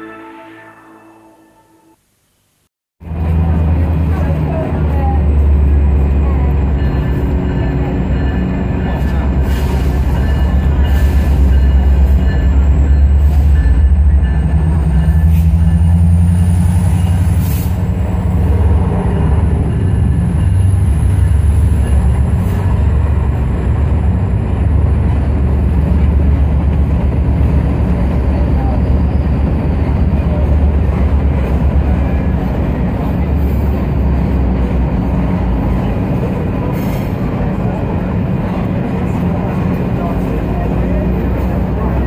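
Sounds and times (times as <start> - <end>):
locomotive engine rumble: 3.0 - 42.0.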